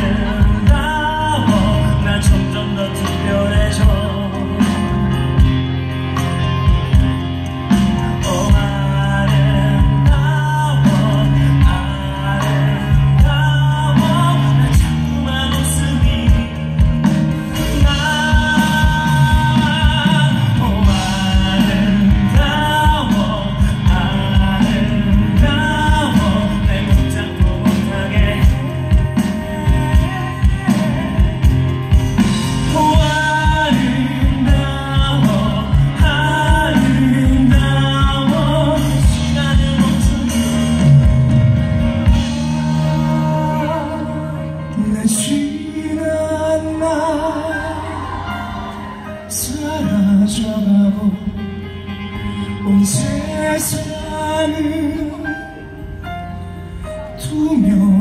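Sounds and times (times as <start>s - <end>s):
drums keeping a steady beat: 0.0s - 58.0s
live band playing pop-rock: 0.0s - 58.0s
male singer: 0.0s - 58.0s.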